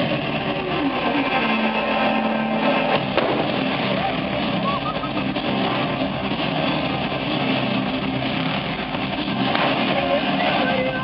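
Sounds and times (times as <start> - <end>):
car engines running loudly: 0.0 - 11.0.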